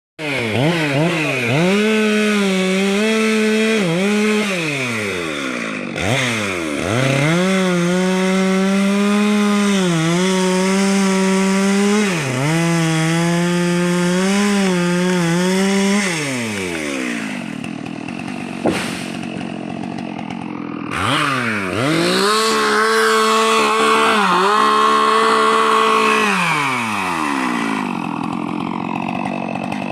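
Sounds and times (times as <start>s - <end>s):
chainsaw cutting wood: 0.2s - 29.9s.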